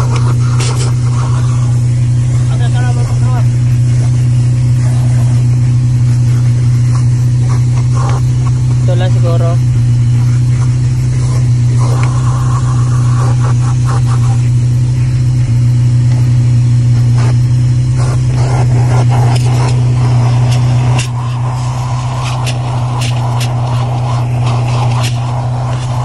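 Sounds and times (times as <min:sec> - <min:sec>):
nozzle clicking and scraping: 0:00.0 - 0:26.0
vacuum cleaner running: 0:00.0 - 0:26.0.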